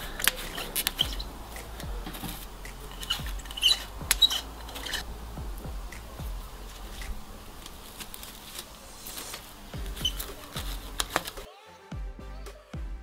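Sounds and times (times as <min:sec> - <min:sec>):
cling film crackling: 0:00.0 - 0:11.5.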